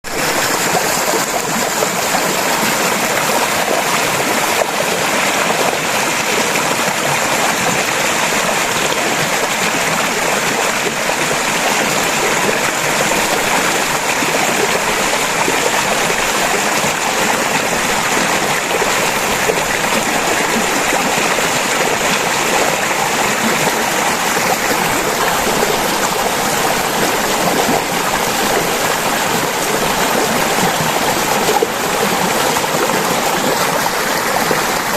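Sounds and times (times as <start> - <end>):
stream running over rocks: 0.0 - 34.9.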